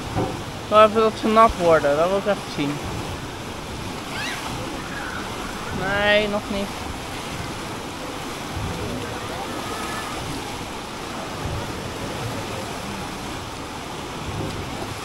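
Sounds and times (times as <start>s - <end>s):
churning water rushing: 0.0s - 15.0s
faint voices: 0.9s - 14.4s.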